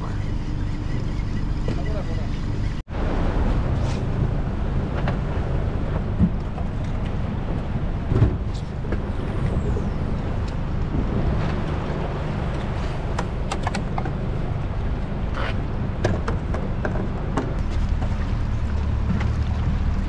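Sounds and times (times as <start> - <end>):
boat motor running: 0.0 - 2.8, 4.1 - 20.0.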